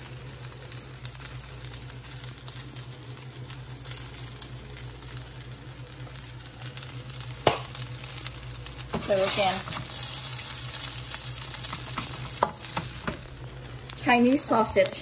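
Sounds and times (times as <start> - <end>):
low steady hum: 0.0 - 15.0
rice frying in a wok: 0.0 - 15.0.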